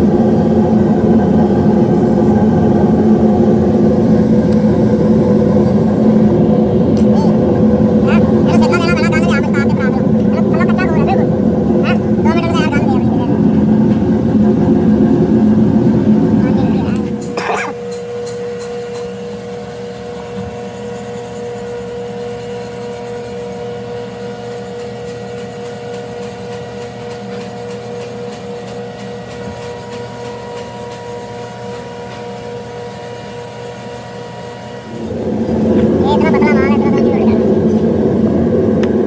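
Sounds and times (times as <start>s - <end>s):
machine whining hum: 0.0s - 39.0s.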